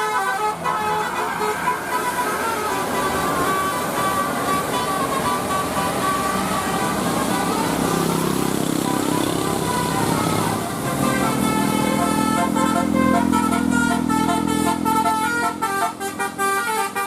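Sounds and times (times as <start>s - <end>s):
bus musical horn melody: 0.0s - 17.0s
road traffic: 0.0s - 17.0s.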